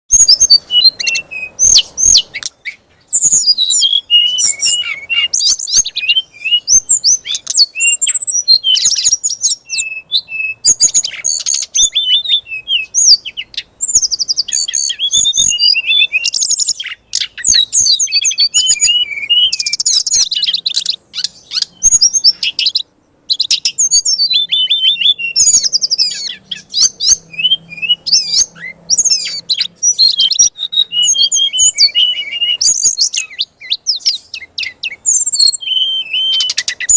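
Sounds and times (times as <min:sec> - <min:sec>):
songbird singing rapid trills: 0:00.1 - 0:36.9.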